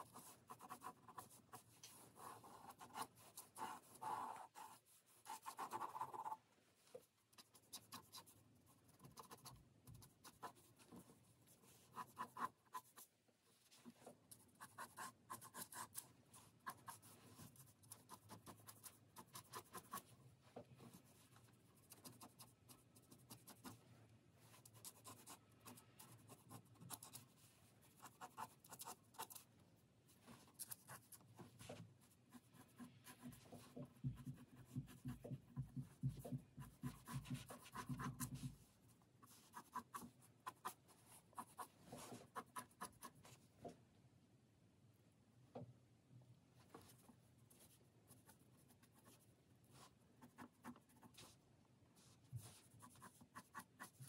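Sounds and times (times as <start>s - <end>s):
pencil scratching on paper: 0.0s - 6.4s, 7.3s - 13.1s, 13.8s - 20.2s, 20.8s - 23.8s, 24.4s - 29.5s, 30.2s - 43.4s, 46.8s - 51.4s, 52.0s - 54.0s.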